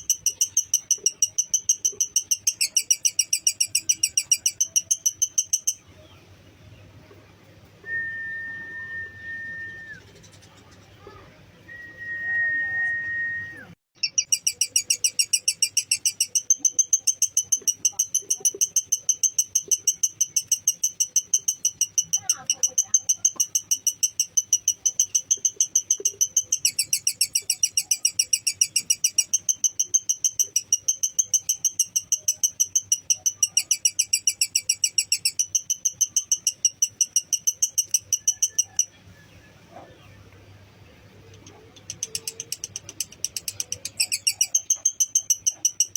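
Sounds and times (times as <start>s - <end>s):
lovebird chattering: 0.0s - 6.8s, 14.0s - 39.8s, 41.2s - 45.9s.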